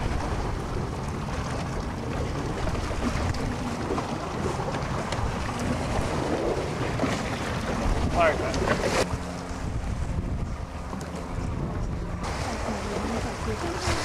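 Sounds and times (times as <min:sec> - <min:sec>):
waves washing against hull: 0:00.0 - 0:14.0
wind buffeting microphone: 0:00.0 - 0:14.0.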